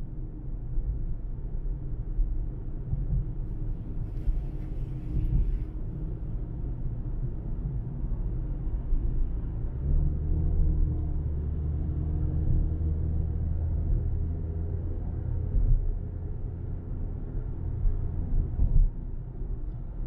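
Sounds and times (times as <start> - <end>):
car driving on highway: 0.0 - 20.0.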